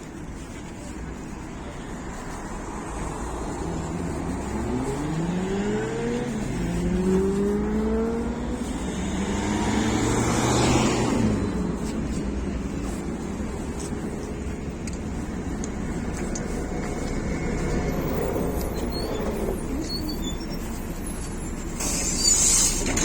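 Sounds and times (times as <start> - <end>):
bus diesel engine accelerating: 0.0 - 23.0.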